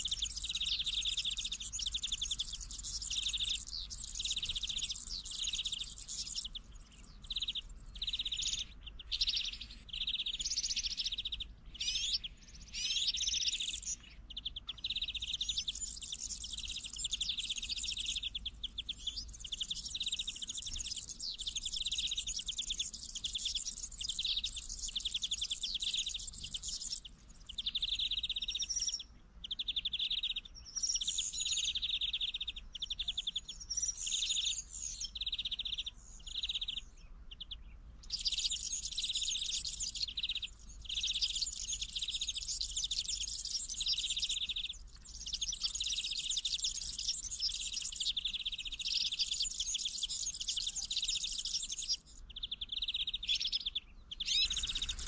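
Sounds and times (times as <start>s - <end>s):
finches twittering: 0.0s - 36.8s, 38.0s - 55.0s.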